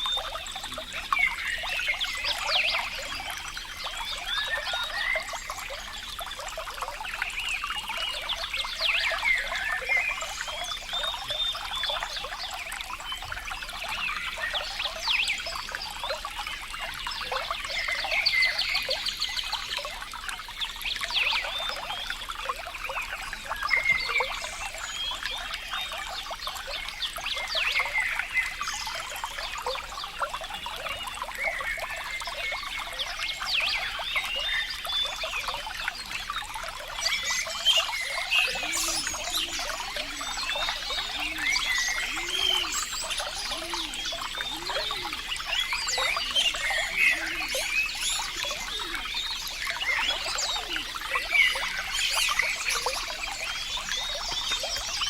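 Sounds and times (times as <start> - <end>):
low gurgles: 0.0 - 55.0
water trickling and gurgling: 0.0 - 55.0.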